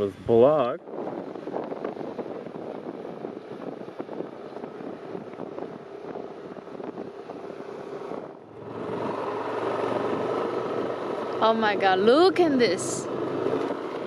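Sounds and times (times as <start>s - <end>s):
wind buffeting microphone: 0.0s - 14.0s
motorbike engine running: 1.0s - 14.0s.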